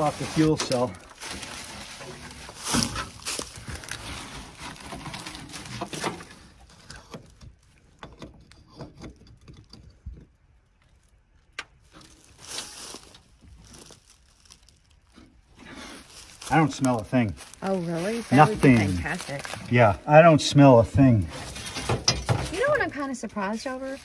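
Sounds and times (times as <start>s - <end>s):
rustling handling noise: 0.0s - 8.0s, 10.4s - 20.1s, 20.8s - 24.0s.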